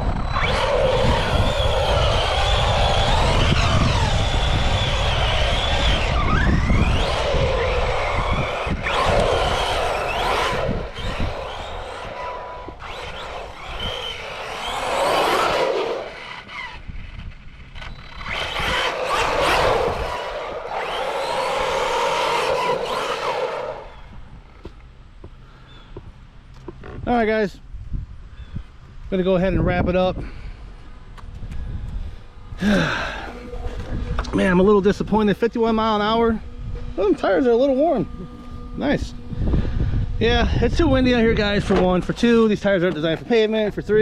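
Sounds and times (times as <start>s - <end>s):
rc truck electric motor whining: 0.0s - 24.7s, 31.4s - 43.6s
wind buffeting microphone: 0.0s - 25.2s, 25.8s - 44.0s.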